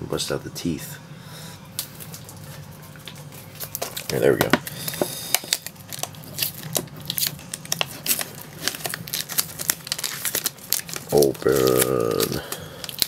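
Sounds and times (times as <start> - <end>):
plastic wrap crinkling: 1.8 - 13.0.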